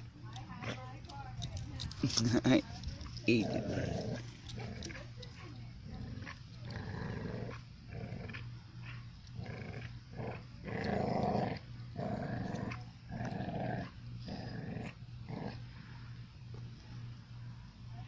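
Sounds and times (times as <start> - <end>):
dogs growling in play: 1.5 - 16.0.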